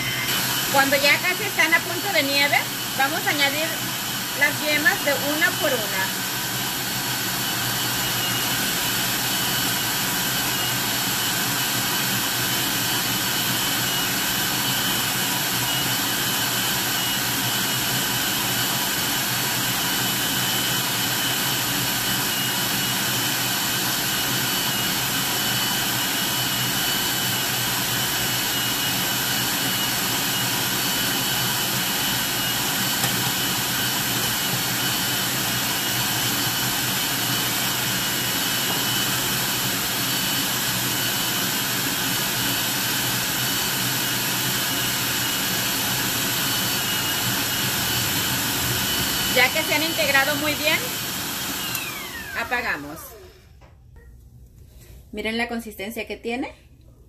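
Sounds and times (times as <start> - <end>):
stand mixer whisking: 0.0 - 53.4.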